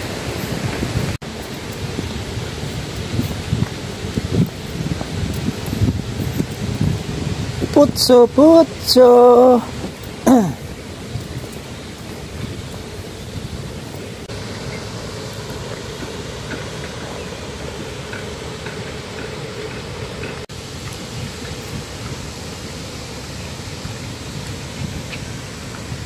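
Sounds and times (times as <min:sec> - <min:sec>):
steady rushing background noise: 0:00.0 - 0:26.0.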